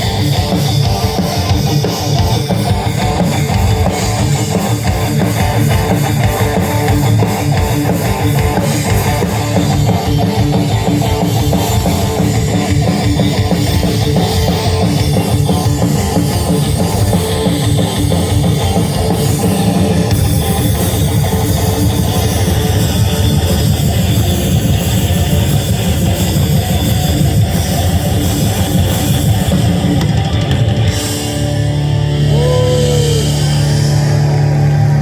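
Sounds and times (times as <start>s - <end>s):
distorted electric guitars: 0.0s - 35.0s
drum kit driving beat: 0.0s - 35.0s.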